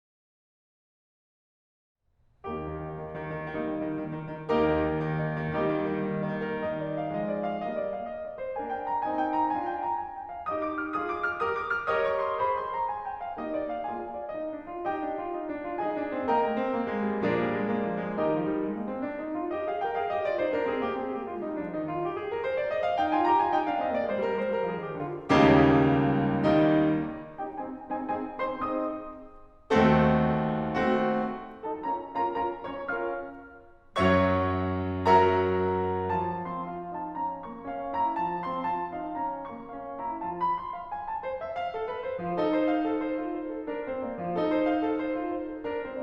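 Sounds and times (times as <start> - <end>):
solo classical piano: 2.2 - 46.0.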